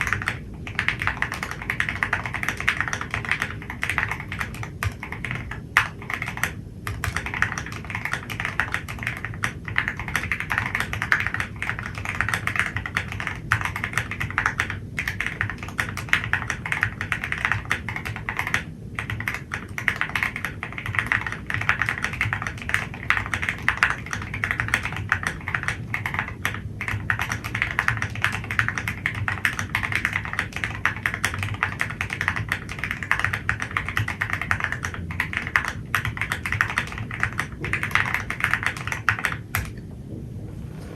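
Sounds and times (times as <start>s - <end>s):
fast typing on mechanical keyboard: 0.0s - 39.8s.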